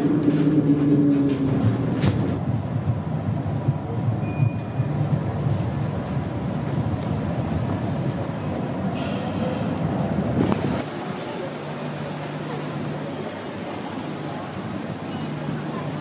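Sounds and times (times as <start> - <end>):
tram rumbling: 0.0 - 16.0.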